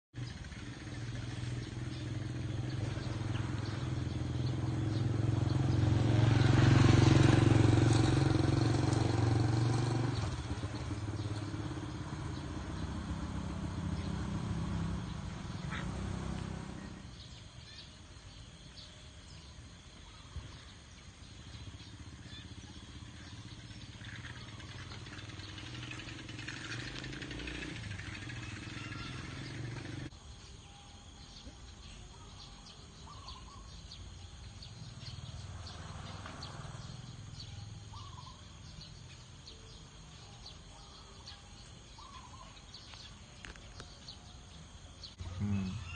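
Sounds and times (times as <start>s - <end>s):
vehicle engine running: 0.1s - 30.2s, 33.1s - 45.9s.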